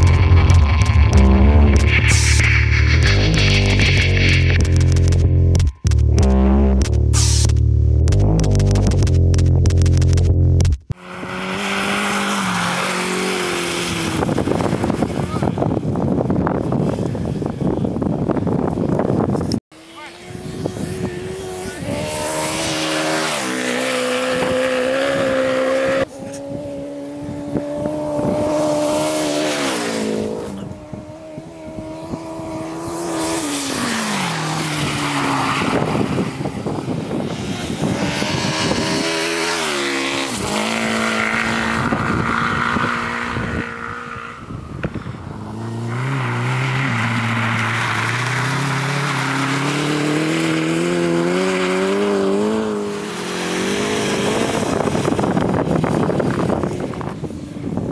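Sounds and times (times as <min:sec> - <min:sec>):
motorcycle engine revving: 0:00.0 - 0:17.1, 0:19.7 - 0:57.2.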